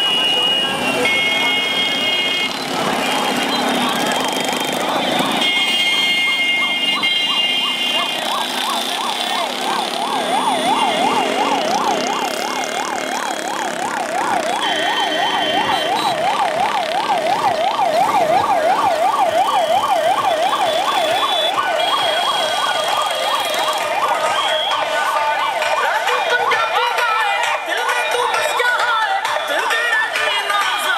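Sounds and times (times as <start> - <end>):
siren yelping: 0.0 - 29.8.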